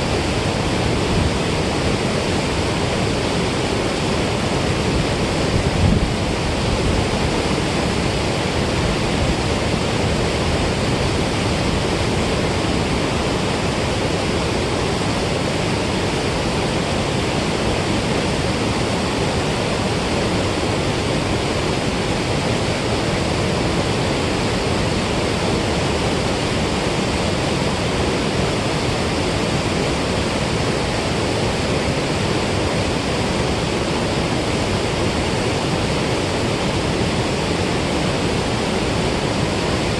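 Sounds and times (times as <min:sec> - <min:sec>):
water rushing from spillway: 0:00.0 - 0:39.9.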